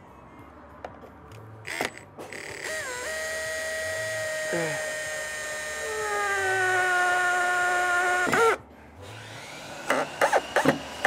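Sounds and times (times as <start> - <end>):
cordless drill whining: 1.7 - 11.0.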